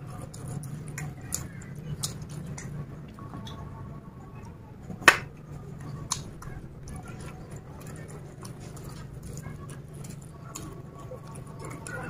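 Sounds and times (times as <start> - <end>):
chewing: 0.0 - 3.7, 5.3 - 12.0.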